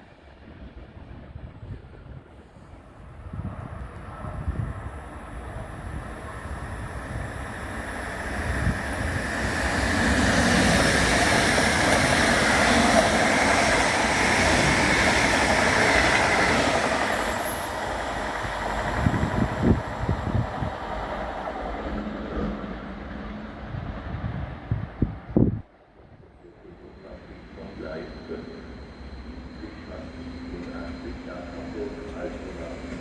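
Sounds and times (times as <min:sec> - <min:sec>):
train rolling past: 0:00.0 - 0:33.0.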